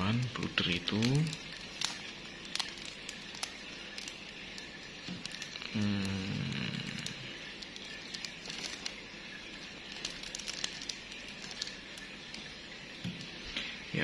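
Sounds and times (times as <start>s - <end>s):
plastic wrapper crinkling: 0.0s - 13.7s.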